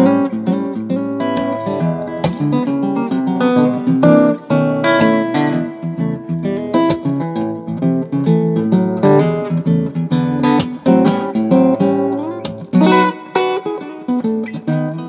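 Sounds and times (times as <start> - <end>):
amplified acoustic guitar: 0.0 - 15.0.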